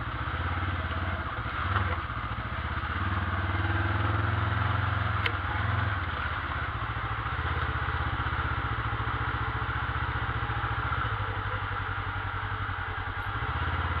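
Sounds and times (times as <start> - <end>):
engine putter at low revs: 0.0 - 14.0.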